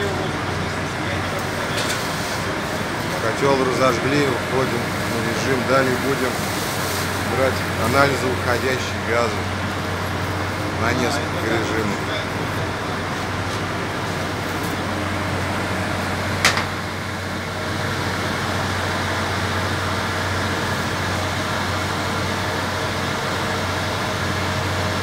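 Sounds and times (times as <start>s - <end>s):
boiler plant fans and motors droning: 0.0s - 25.0s.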